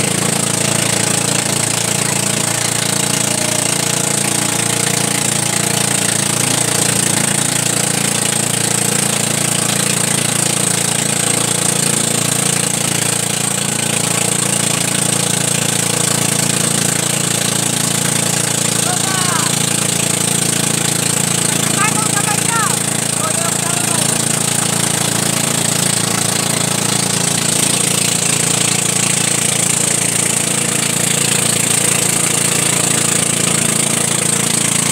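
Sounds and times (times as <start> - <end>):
boat engine running: 0.0 - 34.9
water rushing and spray: 0.0 - 34.9.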